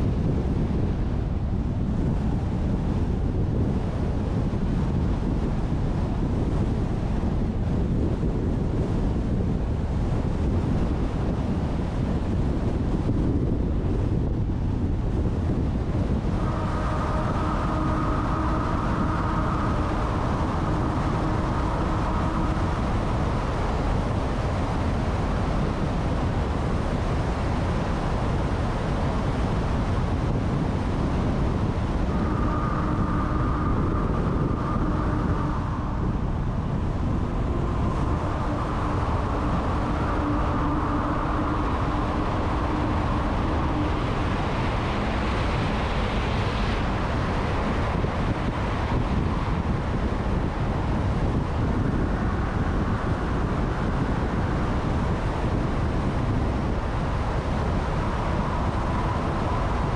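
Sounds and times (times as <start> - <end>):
low engine hum: 0.0 - 59.9
pitched hum: 0.0 - 59.9
tyre and wind noise: 0.0 - 59.9.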